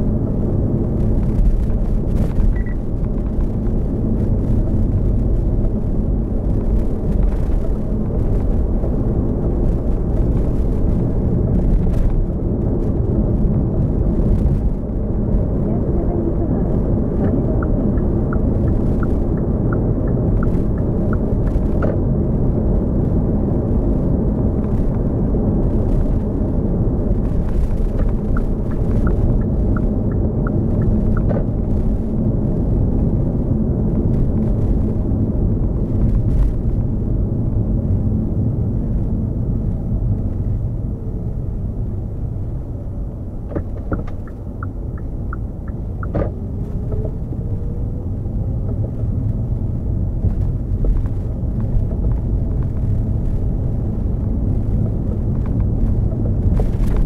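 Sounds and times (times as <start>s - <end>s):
road and tyre rumble: 0.0s - 57.0s.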